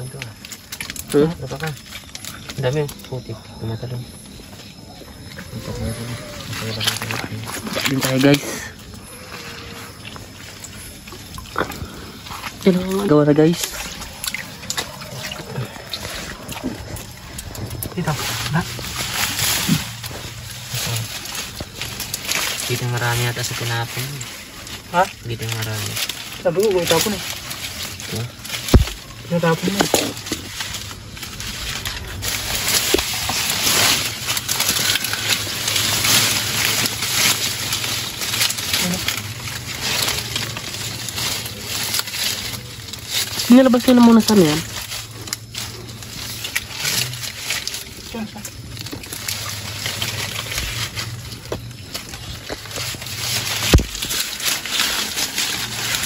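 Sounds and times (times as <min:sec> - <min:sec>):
vegetation rustling and crackling: 0:00.0 - 0:56.0.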